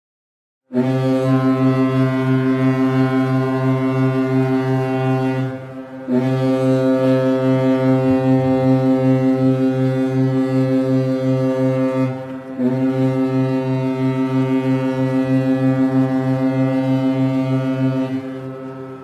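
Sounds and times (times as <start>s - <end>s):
deep ship horn blast: 0.7s - 19.0s.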